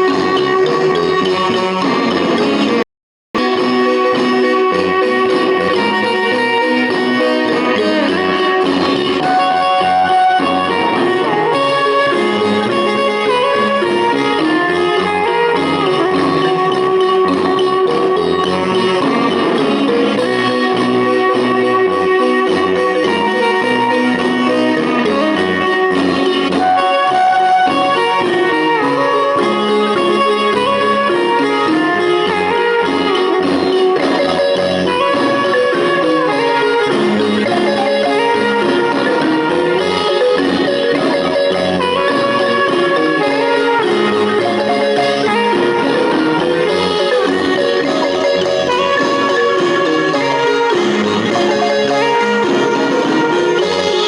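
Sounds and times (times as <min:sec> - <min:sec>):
marimba band playing: 0:00.0 - 0:02.8, 0:03.4 - 0:54.0.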